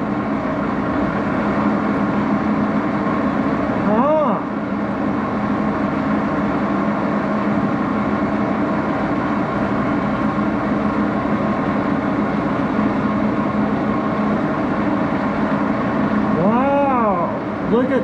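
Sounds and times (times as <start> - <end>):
lathe running: 0.0 - 18.0.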